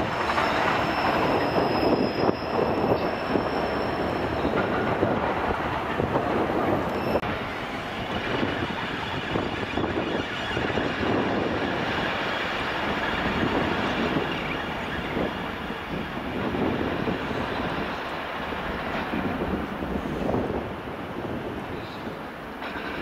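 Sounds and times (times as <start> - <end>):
train running slowly on rails: 0.0 - 23.0.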